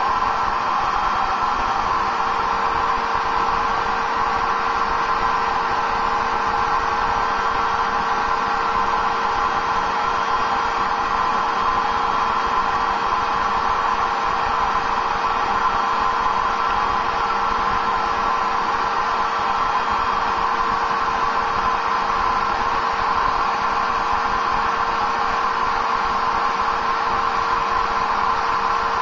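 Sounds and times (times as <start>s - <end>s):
electric air blower running: 0.0s - 29.0s.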